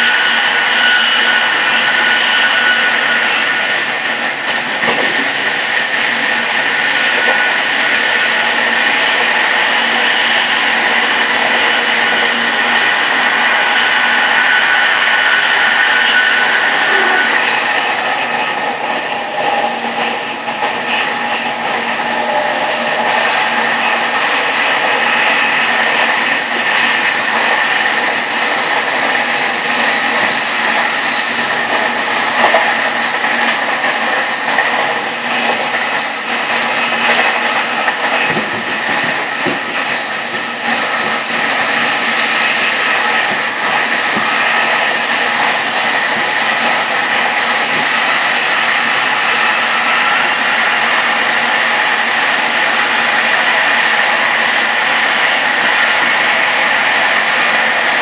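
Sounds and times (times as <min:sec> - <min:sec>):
train wheels and air rushing: 0:00.0 - 0:58.0.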